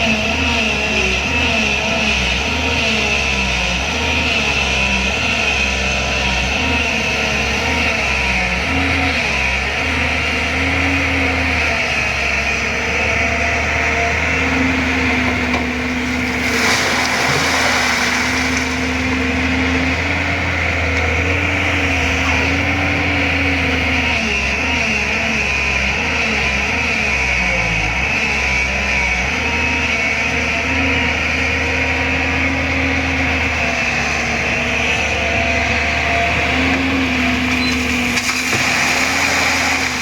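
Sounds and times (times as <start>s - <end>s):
excavator diesel engine working: 0.0s - 40.0s.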